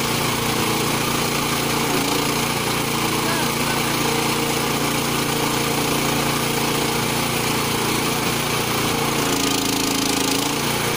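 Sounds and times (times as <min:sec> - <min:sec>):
log splitter motor and pump: 0:00.0 - 0:10.9.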